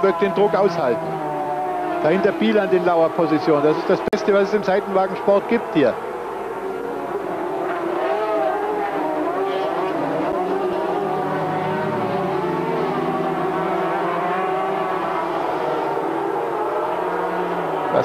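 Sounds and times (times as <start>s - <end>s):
two-stroke racing engines revving: 0.0s - 18.0s.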